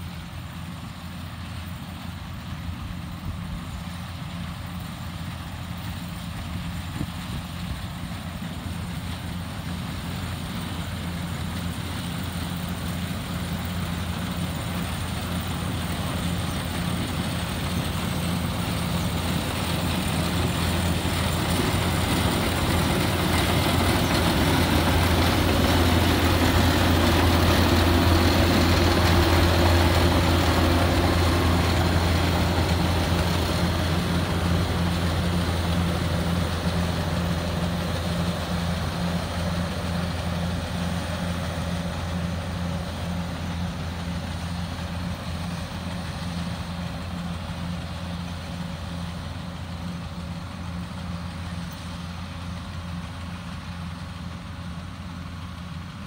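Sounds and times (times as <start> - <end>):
combine harvester engine humming: 0.0 - 56.0.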